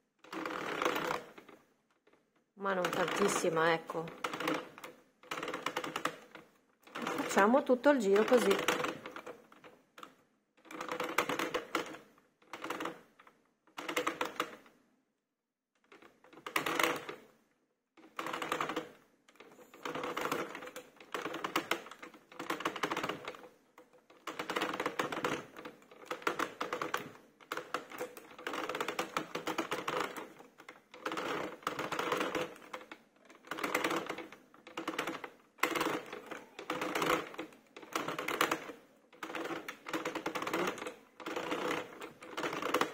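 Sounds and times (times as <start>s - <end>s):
knitting machine clattering clicks: 0.2s - 14.8s, 15.8s - 17.4s, 18.0s - 42.9s.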